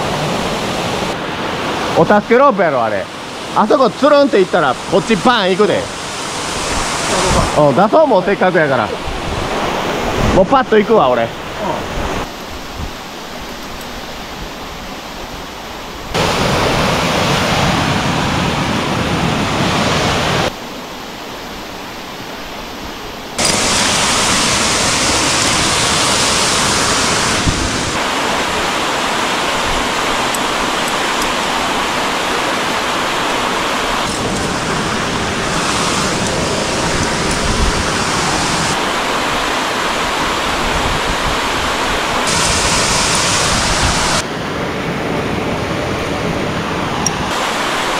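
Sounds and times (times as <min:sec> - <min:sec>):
rushing stream and waterfall: 0:00.0 - 0:47.9.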